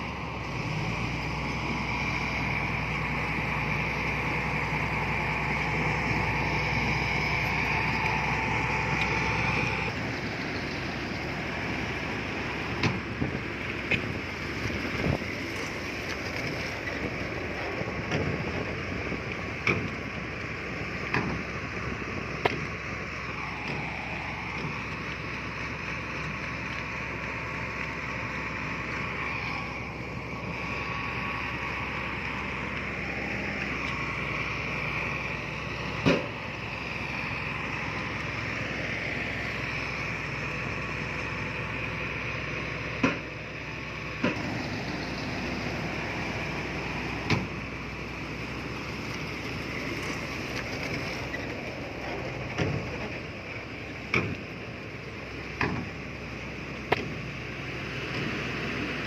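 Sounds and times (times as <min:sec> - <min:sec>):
heavy machinery running: 0:00.0 - 0:59.0.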